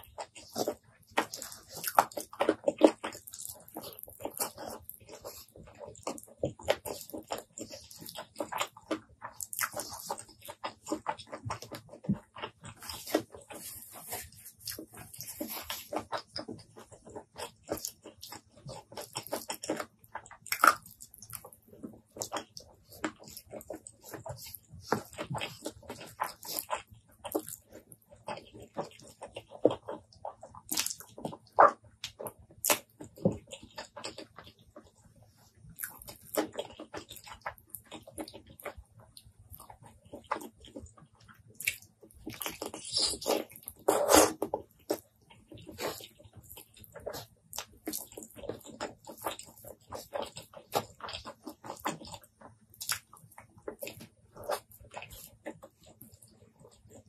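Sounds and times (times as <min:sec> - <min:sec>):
fingers squishing rice: 0:00.0 - 0:35.0, 0:35.6 - 0:57.0
wet chewing and lip-smacking: 0:00.0 - 0:57.0.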